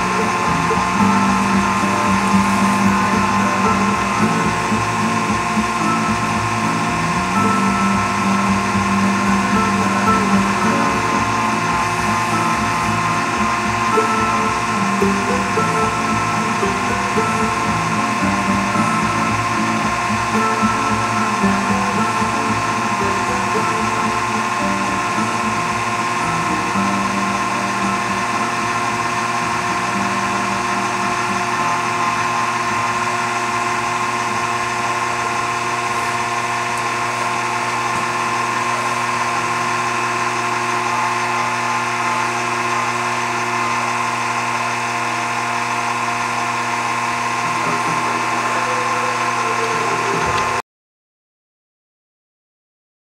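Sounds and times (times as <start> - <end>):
lathe motor and gears whining: 0.0 - 50.6.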